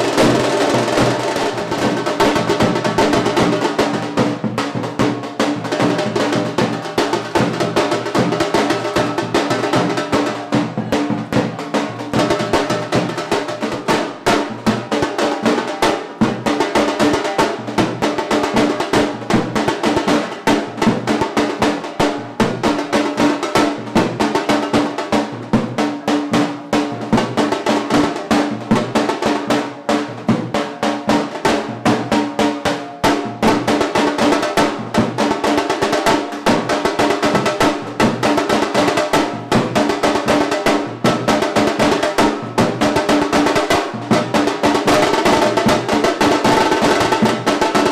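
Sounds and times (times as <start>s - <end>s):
fast dense drumming: 0.0s - 47.9s.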